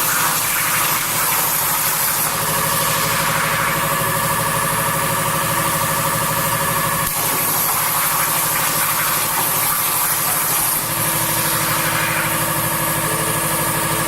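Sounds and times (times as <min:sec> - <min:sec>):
plasma cutter hiss and buzz: 0:00.0 - 0:13.8.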